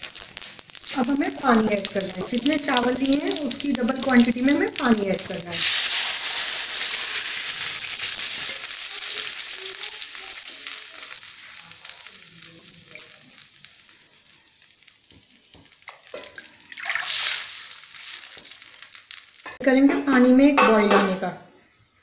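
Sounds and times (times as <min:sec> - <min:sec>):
water sizzling in hot fat: 0:00.0 - 0:19.6.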